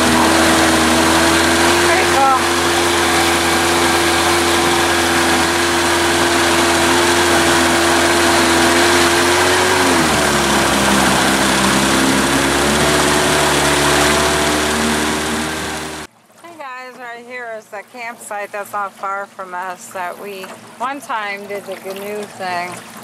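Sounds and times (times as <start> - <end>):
outboard motor running: 0.0 - 17.4, 18.0 - 23.0.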